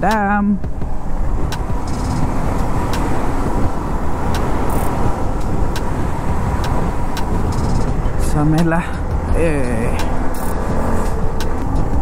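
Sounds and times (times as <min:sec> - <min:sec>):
wind over microphone: 0:00.0 - 0:12.0
motorcycle engine running: 0:00.6 - 0:12.0.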